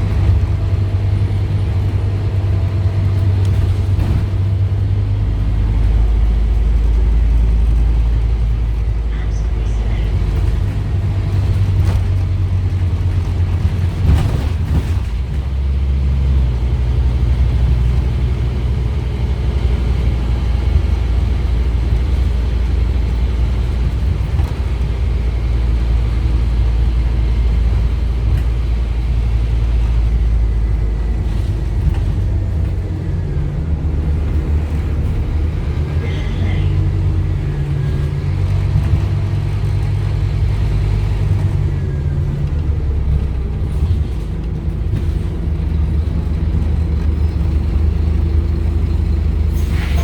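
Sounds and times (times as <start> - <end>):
bus diesel engine rumble: 0.0 - 50.0
road noise: 0.0 - 50.0.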